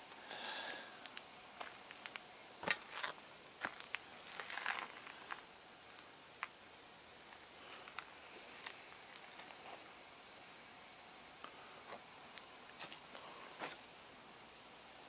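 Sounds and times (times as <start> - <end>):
high insect-like tone: 0.0 - 15.0.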